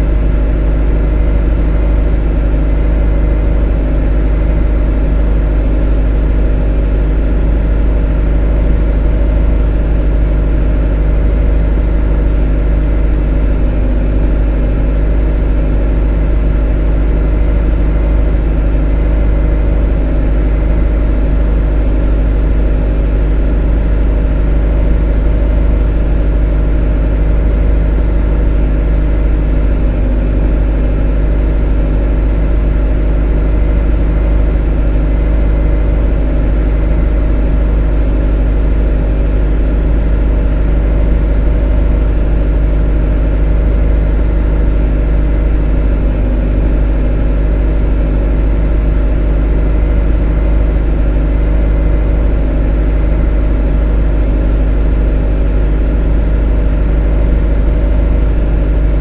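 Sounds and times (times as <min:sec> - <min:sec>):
motor droning steadily: 0:00.0 - 0:59.0.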